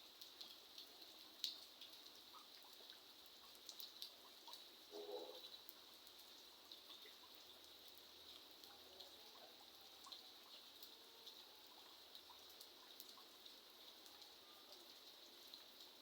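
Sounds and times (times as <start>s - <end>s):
faint steady rain: 0.0s - 16.0s
raindrops dripping and ticking: 0.0s - 16.0s.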